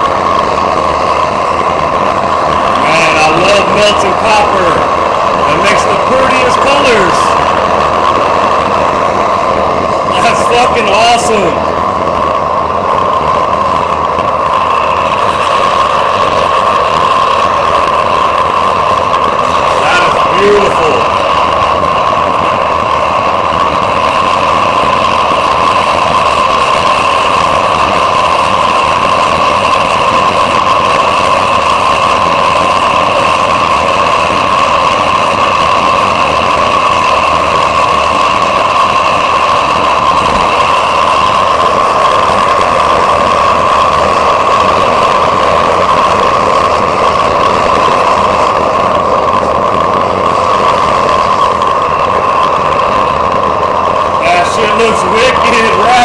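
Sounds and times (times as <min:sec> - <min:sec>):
furnace burner roaring: 0:00.0 - 0:56.0.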